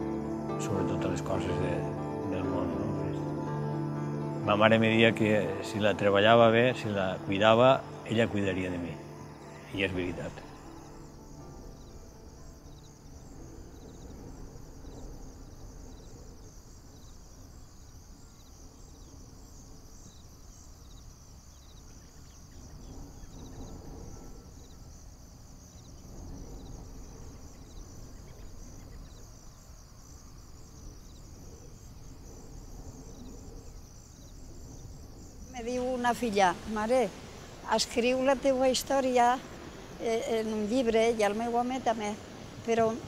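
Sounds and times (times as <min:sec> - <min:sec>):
crickets chirring: 0:00.0 - 0:43.0
low wind rumble: 0:00.0 - 0:43.0.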